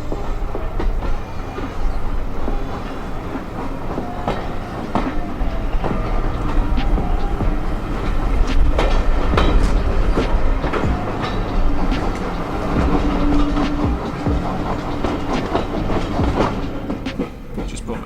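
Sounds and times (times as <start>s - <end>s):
train rumbling: 0.0s - 18.0s
wheels clattering over track: 0.0s - 18.0s.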